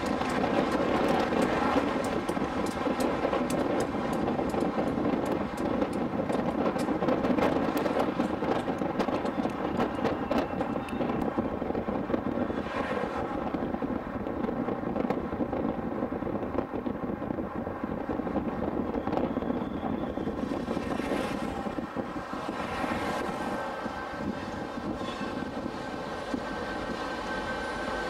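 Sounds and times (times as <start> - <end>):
steel train wheels on rails: 0.0 - 28.0.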